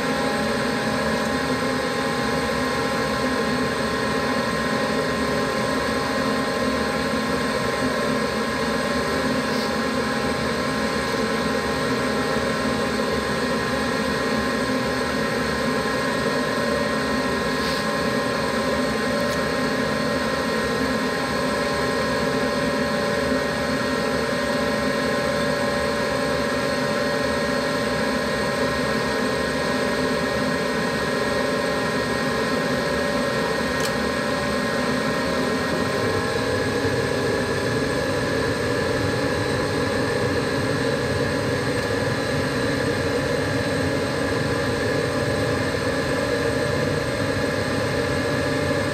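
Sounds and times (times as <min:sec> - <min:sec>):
gas furnace humming: 0:00.0 - 0:48.9.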